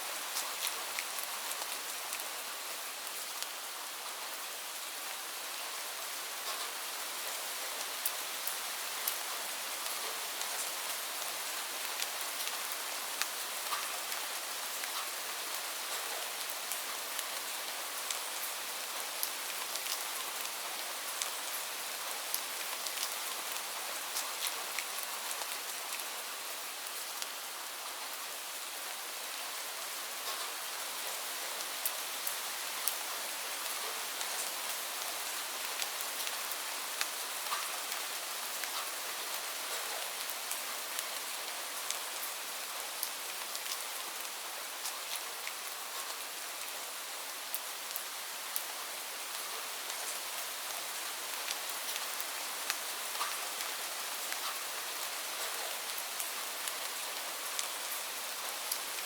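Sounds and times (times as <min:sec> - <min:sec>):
raindrops hitting a surface: 0:00.0 - 0:59.0
steady rain hiss: 0:00.0 - 0:59.0.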